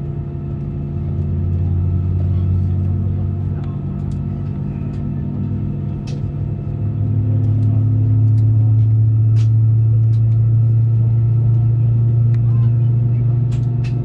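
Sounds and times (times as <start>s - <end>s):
aircraft cabin engine drone: 0.0s - 14.0s.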